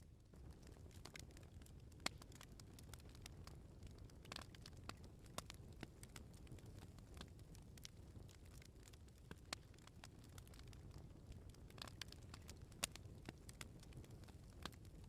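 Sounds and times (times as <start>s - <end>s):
bonfire crackling: 0.3s - 15.0s.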